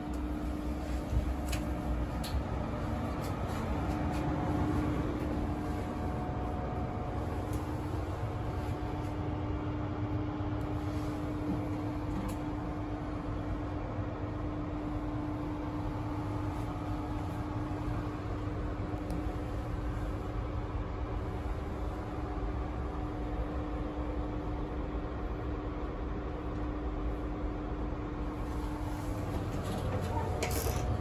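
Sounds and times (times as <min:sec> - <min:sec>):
train carriage hum: 0:00.0 - 0:31.0.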